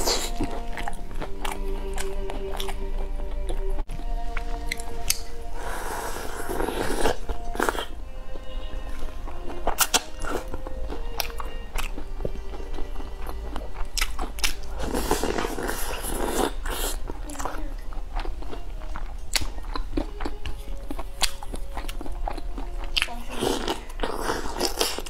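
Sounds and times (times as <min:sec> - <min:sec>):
person biting and chewing buns: 0:00.0 - 0:03.7, 0:04.3 - 0:08.0, 0:09.1 - 0:17.2, 0:18.0 - 0:25.0.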